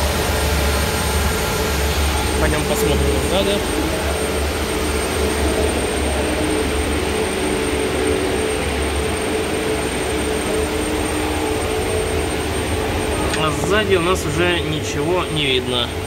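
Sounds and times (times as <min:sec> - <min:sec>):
burner fan and flame rushing: 0:00.0 - 0:16.0
low hum: 0:00.0 - 0:16.0.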